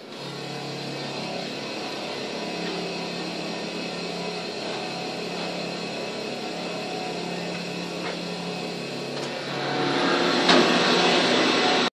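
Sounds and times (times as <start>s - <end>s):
grinding wheel on metal: 0.0s - 11.8s
low machine hum: 0.0s - 11.9s.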